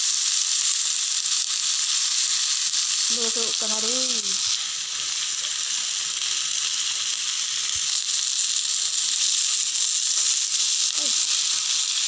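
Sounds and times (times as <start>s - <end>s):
chicken sizzling on grill pan: 0.0s - 12.0s.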